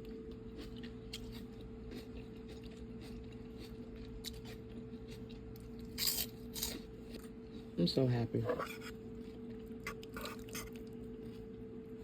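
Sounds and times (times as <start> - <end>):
person chewing: 0.0 - 7.7, 8.5 - 11.6
steady low hum: 0.0 - 12.0.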